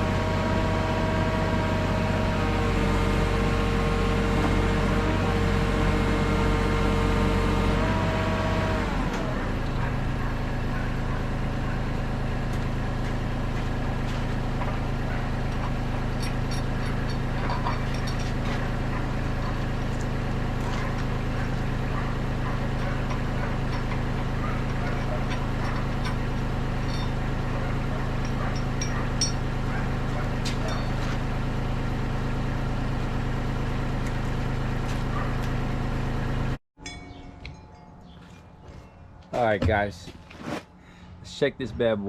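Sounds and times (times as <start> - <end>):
diesel engine idling: 0.0 - 36.6.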